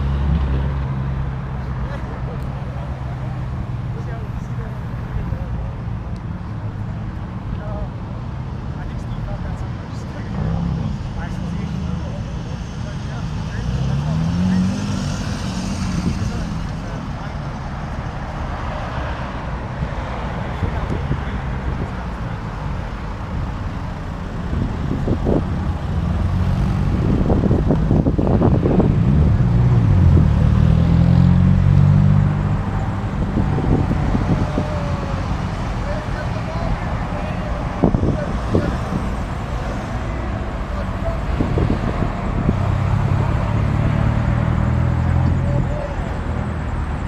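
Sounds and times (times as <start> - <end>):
car engines rumbling: 0.0 - 47.0.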